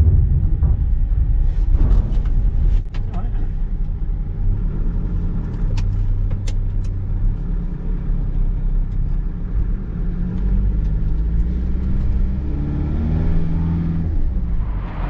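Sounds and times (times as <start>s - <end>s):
vehicle rumbling on the move: 0.0s - 15.0s.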